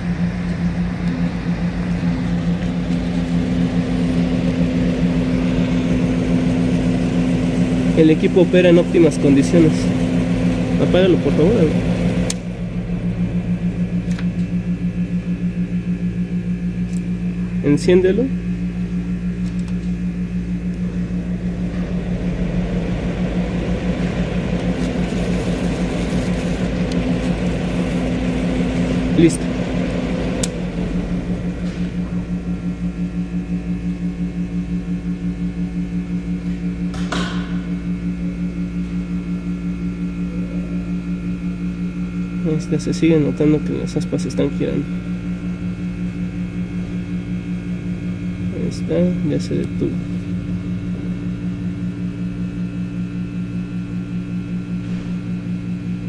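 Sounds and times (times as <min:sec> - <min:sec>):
cooling fan humming and whirring: 0:00.0 - 0:56.0.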